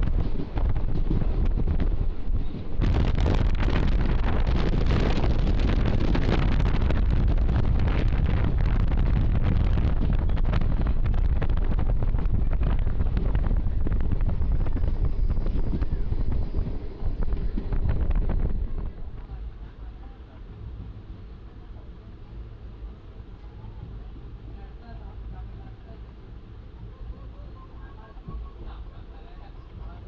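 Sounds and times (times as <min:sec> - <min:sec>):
wind buffeting microphone: 0:00.0 - 0:25.8
moving train running noise: 0:00.0 - 0:30.0.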